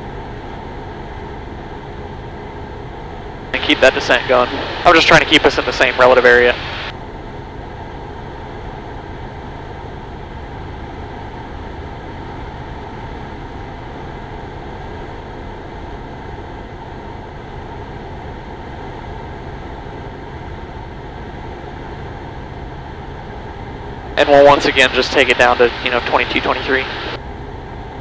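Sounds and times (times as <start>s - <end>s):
propeller plane engine droning: 0.0s - 28.0s.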